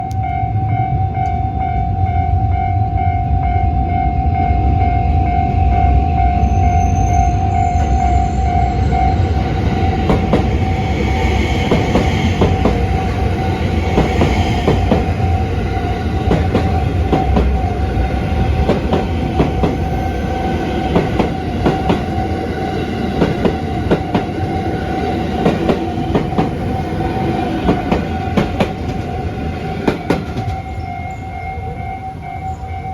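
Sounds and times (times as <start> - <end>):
crossing warning bell ringing: 0.0 - 32.9
train wheels rumbling and clicking: 5.4 - 32.9.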